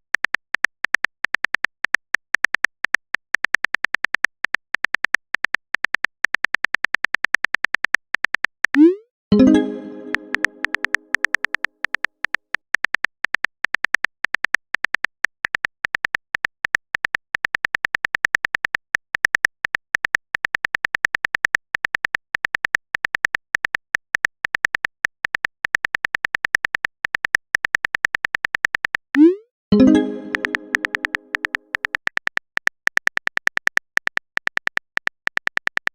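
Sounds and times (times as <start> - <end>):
phone keyboard typing clicks: 0.0 - 35.9.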